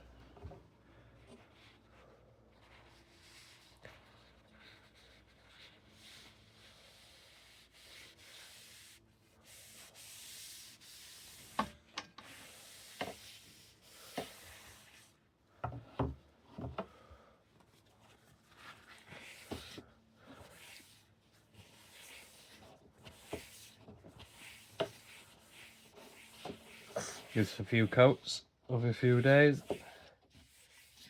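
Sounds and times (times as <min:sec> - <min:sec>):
paper rubbing on wood: 0:02.5 - 0:15.2, 0:17.8 - 0:31.0.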